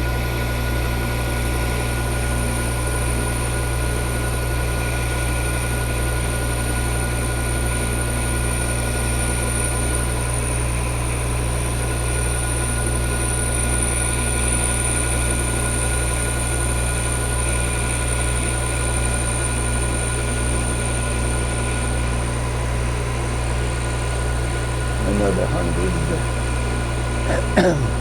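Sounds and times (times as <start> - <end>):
metal lathe humming and whining: 1.4 - 25.0.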